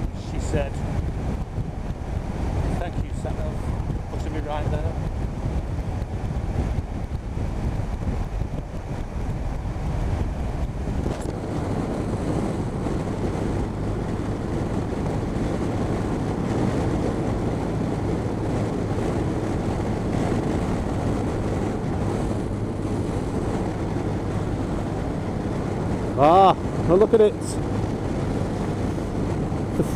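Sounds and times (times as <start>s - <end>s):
motorcycle engine humming: 0.0s - 29.9s
wind rushing on microphone: 0.0s - 29.9s.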